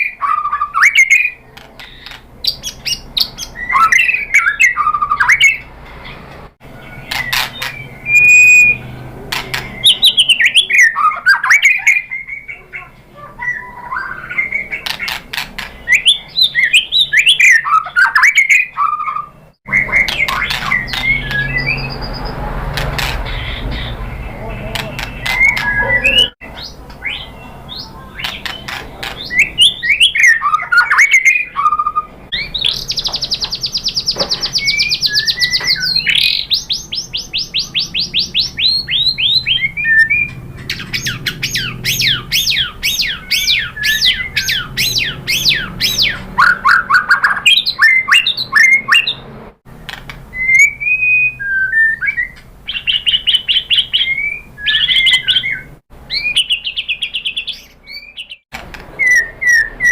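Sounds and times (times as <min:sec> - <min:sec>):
songbird singing whistled song: 0:00.0 - 0:06.2, 0:06.8 - 0:22.5, 0:23.3 - 0:49.2, 0:50.3 - 0:59.9.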